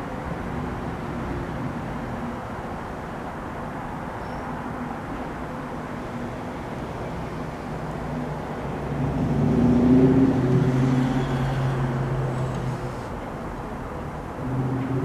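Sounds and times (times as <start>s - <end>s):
distant electric train rumble: 0.0s - 15.0s.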